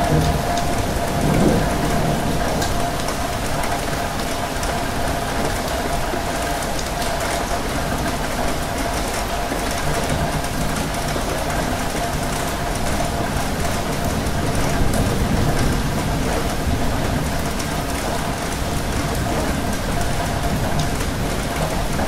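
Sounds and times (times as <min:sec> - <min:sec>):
rail carriage running noise: 0:00.0 - 0:22.0
rain on a window: 0:00.0 - 0:22.0.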